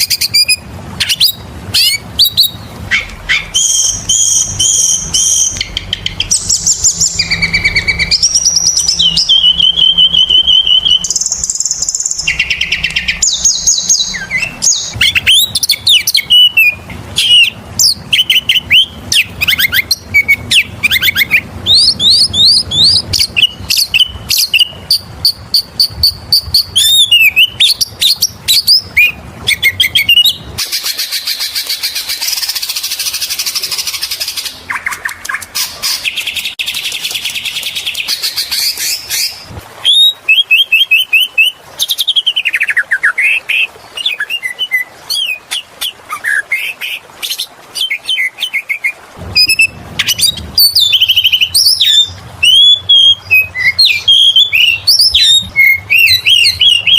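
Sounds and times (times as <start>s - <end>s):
bird singing: 0.0s - 45.6s, 47.8s - 56.9s.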